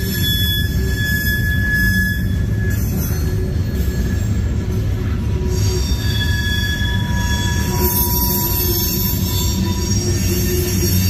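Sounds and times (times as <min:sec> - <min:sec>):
high-pitched wheel squeal: 0:00.0 - 0:11.0
train wheels rumbling on rail: 0:00.0 - 0:11.0.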